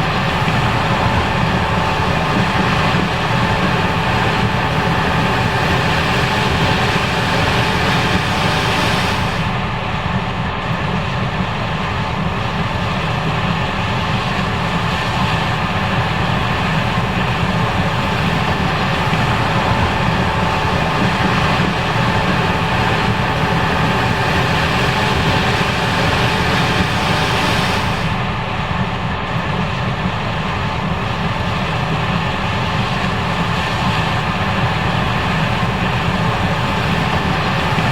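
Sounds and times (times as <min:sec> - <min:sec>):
combine harvester machinery hum: 0:00.0 - 0:37.9
steady machine whine: 0:00.0 - 0:37.9.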